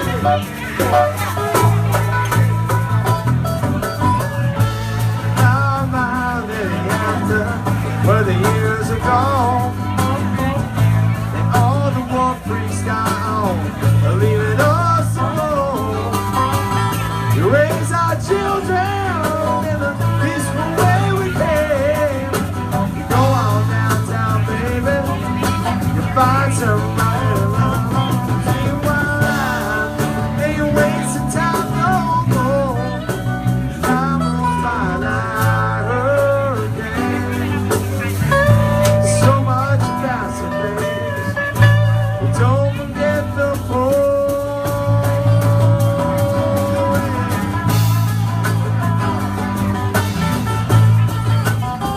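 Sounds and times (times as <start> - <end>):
bass line: 0.0 - 51.9
drums: 0.0 - 51.9
lead guitar with bent notes: 0.0 - 51.9.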